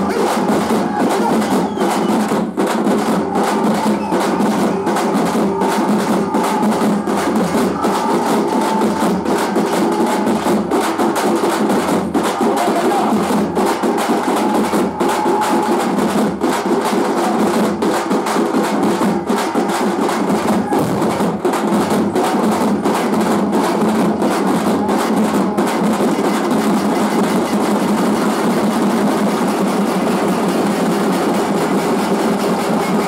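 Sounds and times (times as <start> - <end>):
drummers beating large drums: 0.0 - 33.0.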